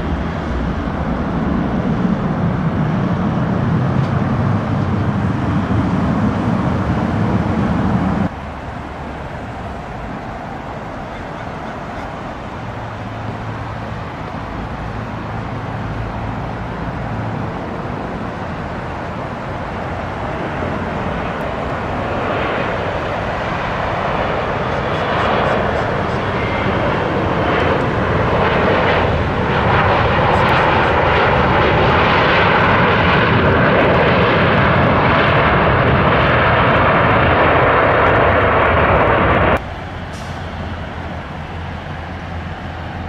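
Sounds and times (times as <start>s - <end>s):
approaching aircraft noise: 0.0s - 43.0s
loud low aircraft engine rumble: 0.0s - 43.0s.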